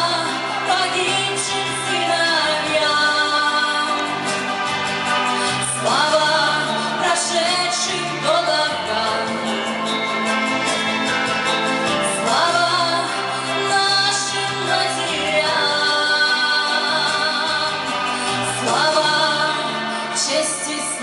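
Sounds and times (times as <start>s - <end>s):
instrumental backing with bass: 0.0s - 21.0s.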